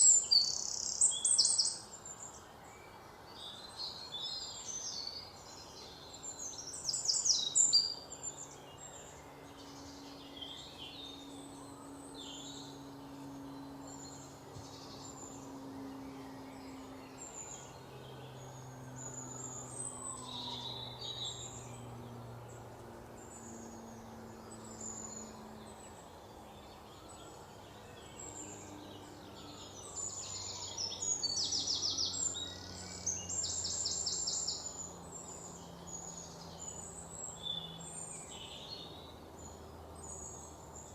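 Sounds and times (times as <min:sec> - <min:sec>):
birds chirping in chorus: 0:00.0 - 0:40.9
faint low hum: 0:00.0 - 0:40.9.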